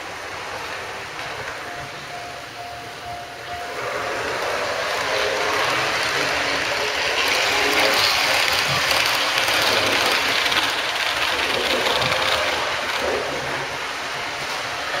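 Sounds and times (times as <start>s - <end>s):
model trains whirring on track: 0.0s - 15.0s.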